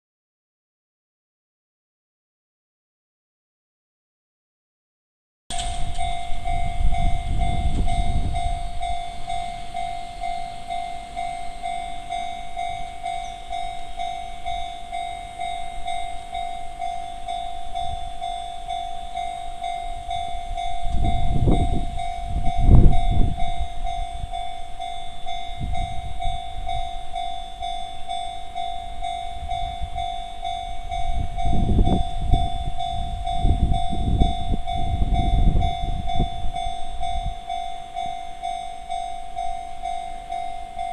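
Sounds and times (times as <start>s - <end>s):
level crossing bell ringing: 5.5s - 40.9s.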